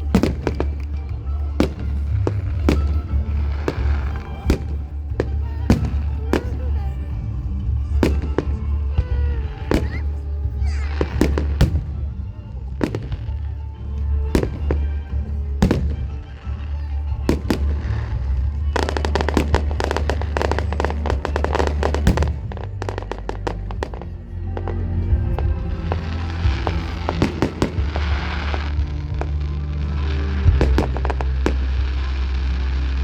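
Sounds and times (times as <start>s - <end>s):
fireworks bursting: 0.0s - 33.0s
music with heavy bass: 0.0s - 33.0s
rapid fireworks crackling: 0.0s - 33.0s.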